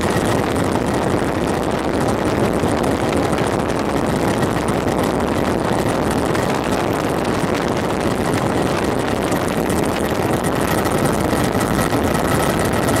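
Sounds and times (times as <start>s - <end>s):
aircraft engine drone: 0.0s - 13.0s
rushing air: 0.0s - 13.0s.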